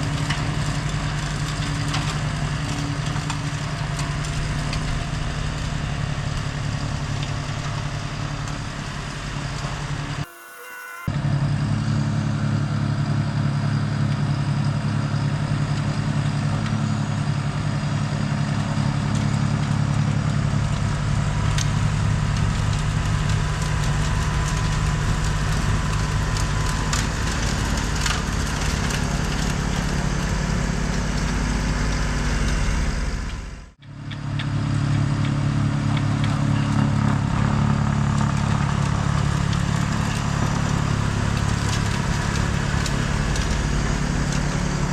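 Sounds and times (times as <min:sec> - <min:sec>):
snowblower crunching through snow: 0:00.0 - 0:11.1, 0:14.1 - 0:44.9
tractor diesel engine running: 0:00.0 - 0:44.9.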